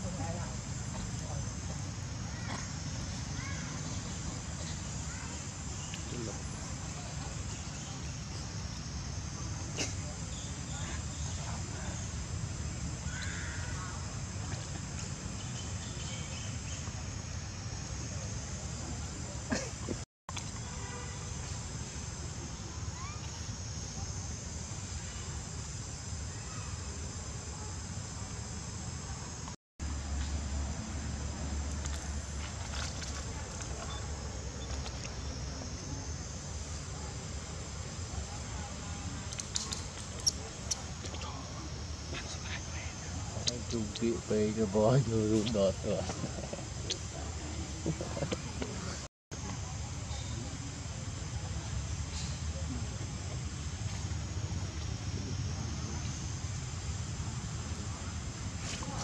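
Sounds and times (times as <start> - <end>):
faint high insect hiss: 0.0 - 59.0.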